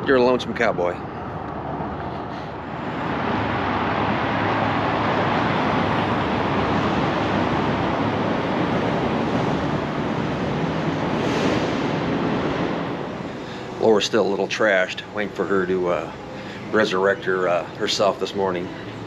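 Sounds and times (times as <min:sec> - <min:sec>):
steady outdoor rushing noise: 0:00.0 - 0:19.0.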